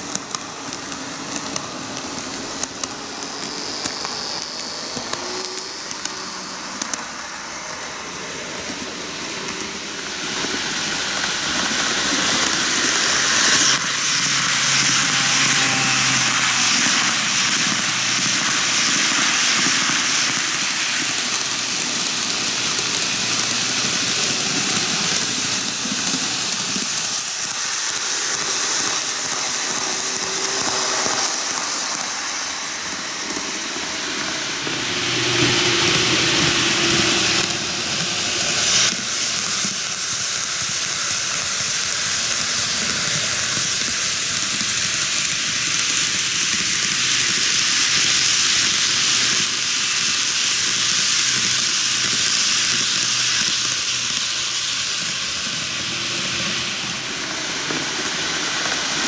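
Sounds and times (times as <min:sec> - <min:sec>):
model trains whirring on rails: 0:00.0 - 0:59.0.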